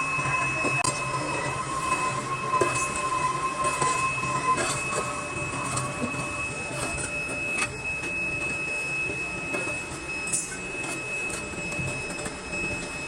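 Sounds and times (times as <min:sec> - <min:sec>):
lower machine tone: 0:00.0 - 0:13.0
machinery high whine: 0:00.0 - 0:13.0.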